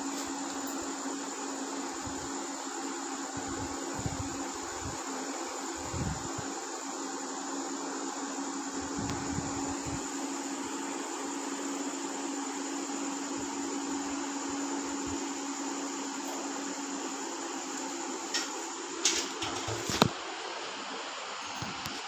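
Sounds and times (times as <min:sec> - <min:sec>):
thin high whine: 0:00.0 - 0:20.1
background hum and hiss: 0:00.0 - 0:22.0.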